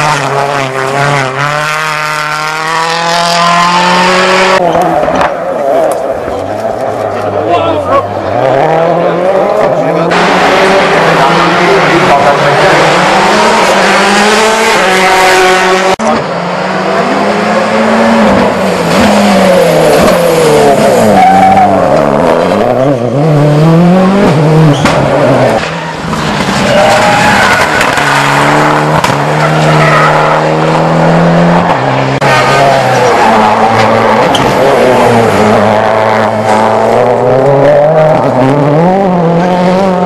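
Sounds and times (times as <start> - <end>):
rally cars passing at speed: 0.0 - 40.0.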